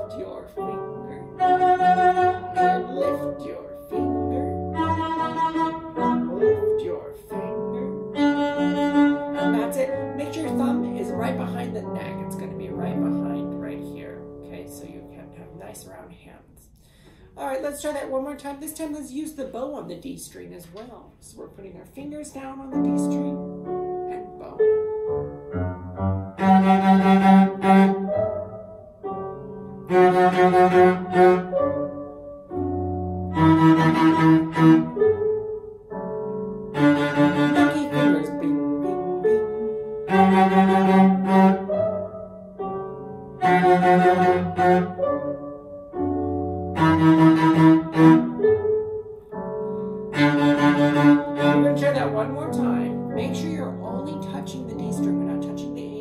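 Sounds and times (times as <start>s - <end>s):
cello bowed notes: 0.0s - 15.2s, 22.4s - 56.0s
piano accompaniment: 0.0s - 56.0s.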